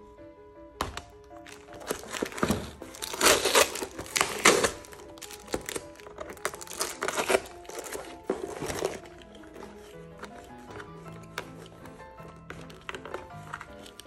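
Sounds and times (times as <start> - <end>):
soft music: 0.0 - 14.0
plastic film crinkling: 0.8 - 14.0.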